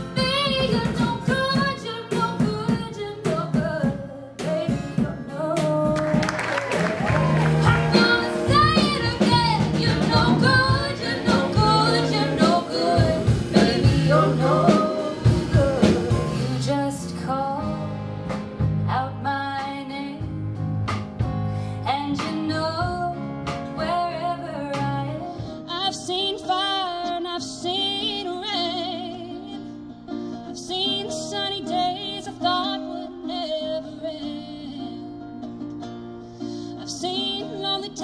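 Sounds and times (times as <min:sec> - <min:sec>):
woman singing: 0:00.0 - 0:06.4, 0:07.2 - 0:18.1, 0:18.8 - 0:20.4, 0:21.8 - 0:29.7, 0:30.4 - 0:35.6, 0:36.7 - 0:38.0
live band with guitar and drums: 0:00.0 - 0:38.0.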